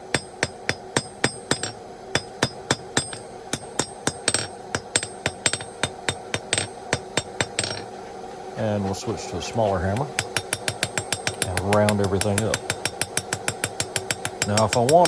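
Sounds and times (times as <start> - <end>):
hammer striking steel on anvil: 0.0 - 7.9, 9.9 - 15.0
anvil ringing: 0.1 - 7.9, 10.0 - 15.0.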